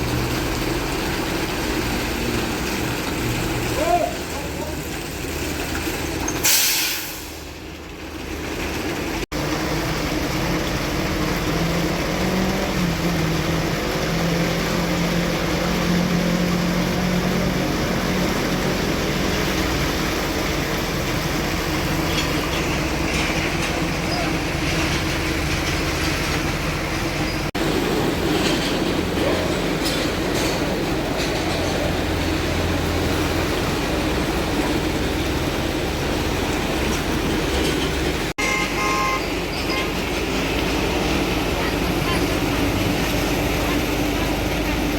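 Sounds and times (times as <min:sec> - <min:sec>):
diesel truck rumbling: 0:00.0 - 0:44.9.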